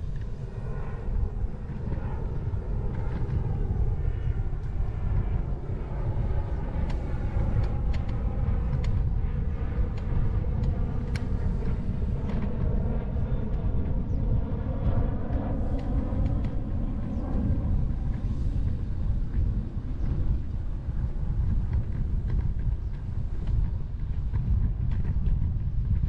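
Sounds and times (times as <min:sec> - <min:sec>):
wind and rolling rumble: 0:00.0 - 0:26.0.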